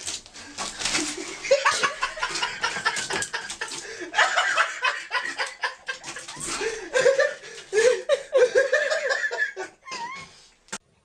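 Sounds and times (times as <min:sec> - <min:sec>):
person chuckling: 0:01.0 - 0:10.3.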